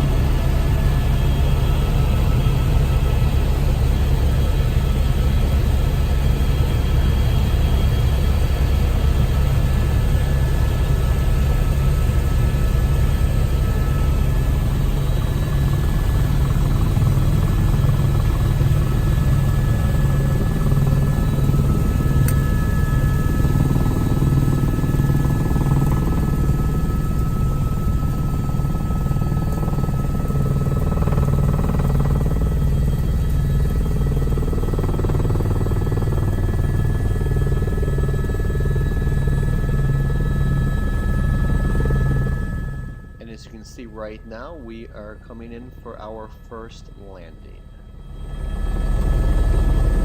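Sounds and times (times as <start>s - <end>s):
helicopter engine and rotor rumble: 0.0s - 50.0s.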